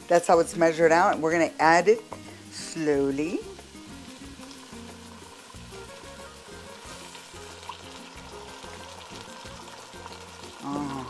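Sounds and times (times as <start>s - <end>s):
soft background music: 0.0s - 11.0s
vegetables sizzling in oil: 0.0s - 11.0s
broth pouring: 2.1s - 11.0s.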